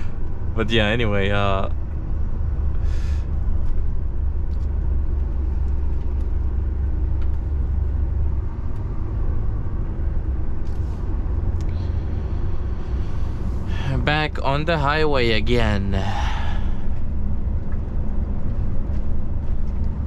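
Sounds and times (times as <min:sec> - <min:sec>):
truck diesel engine rumble: 0:00.0 - 0:20.0.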